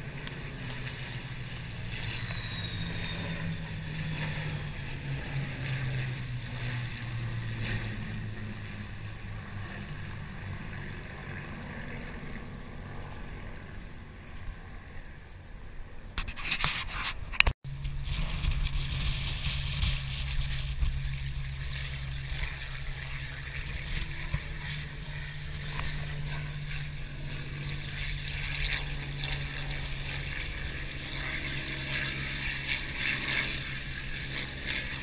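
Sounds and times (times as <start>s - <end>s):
propeller aircraft engine drone: 0.0s - 35.0s.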